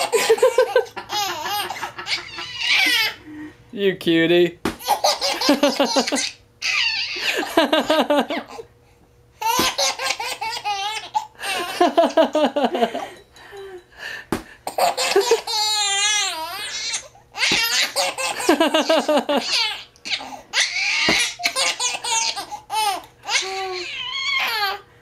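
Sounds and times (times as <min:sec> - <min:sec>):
baby laughing: 0:00.0 - 0:03.2, 0:04.8 - 0:08.7, 0:09.4 - 0:12.7, 0:14.7 - 0:24.8.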